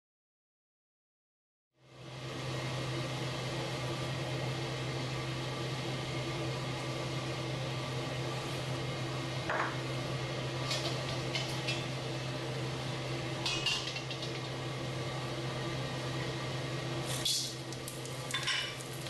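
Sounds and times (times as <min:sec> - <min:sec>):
gas stove burner hissing: 0:02.0 - 0:19.0.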